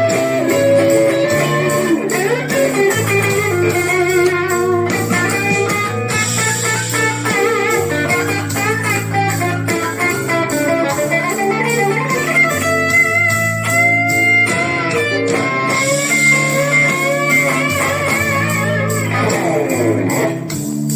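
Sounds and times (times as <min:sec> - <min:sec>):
bass backing track: 0:00.0 - 0:20.9
slow blues electric guitar: 0:00.0 - 0:20.9.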